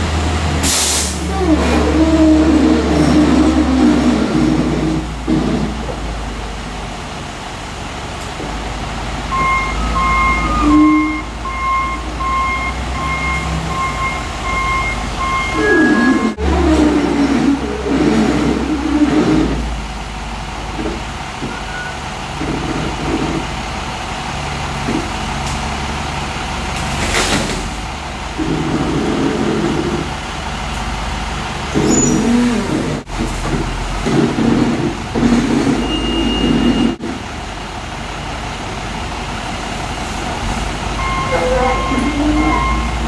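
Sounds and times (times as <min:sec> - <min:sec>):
diesel engine surging: 0:00.0 - 0:43.0.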